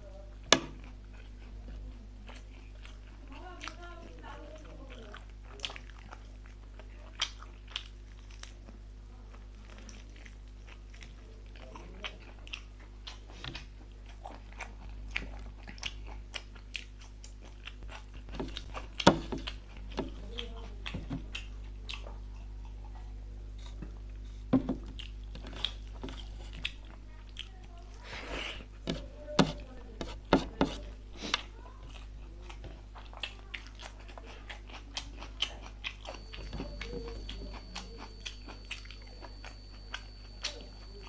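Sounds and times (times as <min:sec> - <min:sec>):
steady low hum: 0:00.0 - 0:41.0
person chewing and crunching food: 0:00.4 - 0:41.0.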